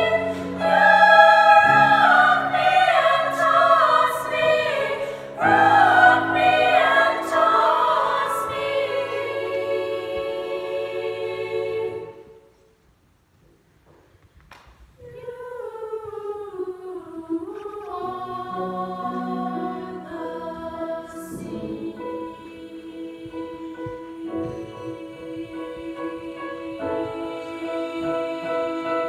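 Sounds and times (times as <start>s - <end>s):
girls choir singing in harmony: 0.0s - 12.7s, 15.0s - 29.0s.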